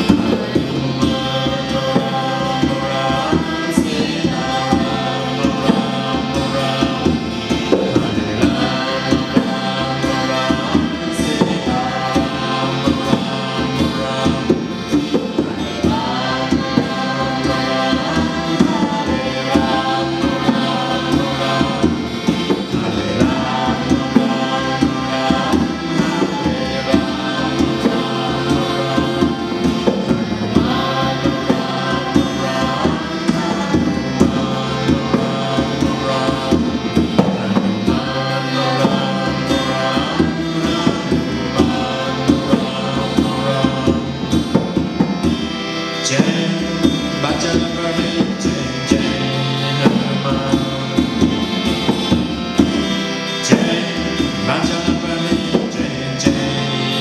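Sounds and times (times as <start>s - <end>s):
harmonium drone: 0.0s - 57.0s
strummed acoustic guitars: 0.0s - 57.0s.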